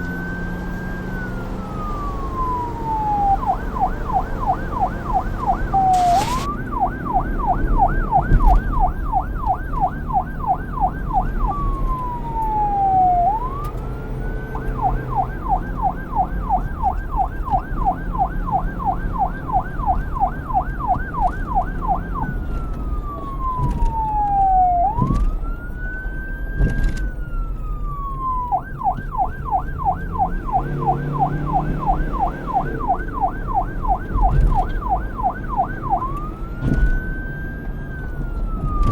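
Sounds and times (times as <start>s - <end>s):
police siren yelping: 0.0s - 38.9s.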